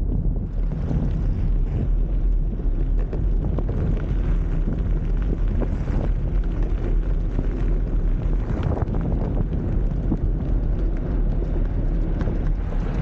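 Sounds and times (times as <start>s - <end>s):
tyres rolling on asphalt: 0.0s - 13.0s
wind buffeting microphone: 0.0s - 13.0s
small ticks and rattles: 0.7s - 13.0s.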